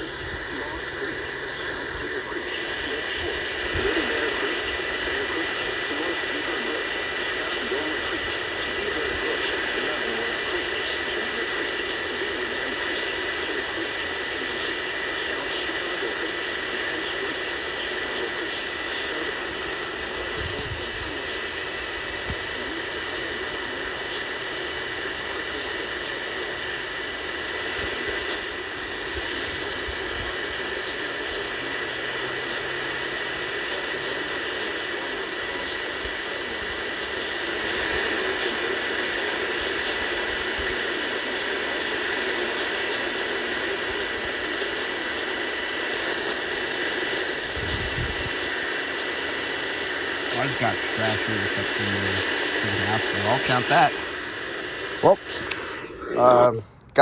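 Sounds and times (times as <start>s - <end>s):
radio static hiss and crackle: 0.0s - 57.0s.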